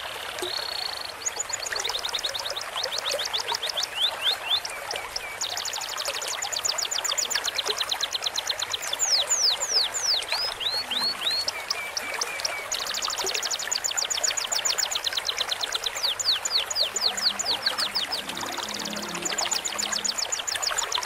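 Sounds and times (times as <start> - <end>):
trickling stream water: 0.0 - 21.0
caged birds singing trills and whistles: 0.5 - 21.0.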